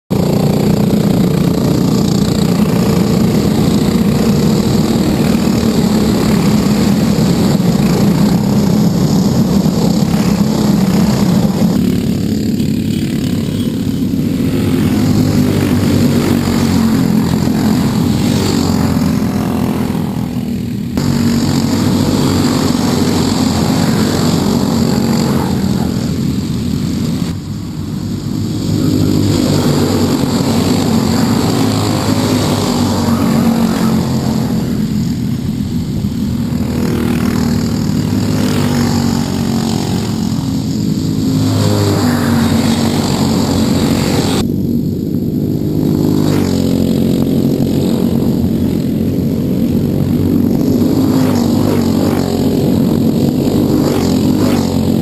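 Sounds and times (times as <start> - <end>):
kart engines revving past: 0.1 - 55.0.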